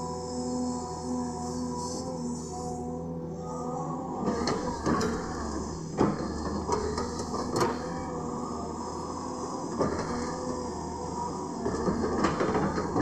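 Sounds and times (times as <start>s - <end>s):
excavator diesel engine running: 0.1s - 13.0s.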